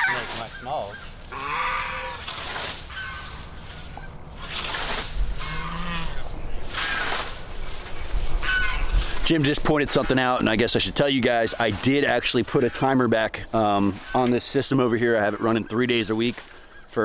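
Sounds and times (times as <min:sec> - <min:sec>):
scythe swishing through grass: 0:00.0 - 0:10.1, 0:10.7 - 0:12.9, 0:13.6 - 0:15.0.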